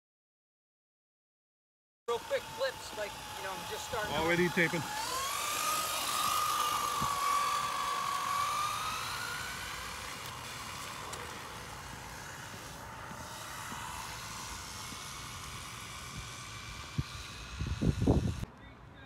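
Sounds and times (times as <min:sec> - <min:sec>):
toy car electric motor whining: 0:02.1 - 0:18.5.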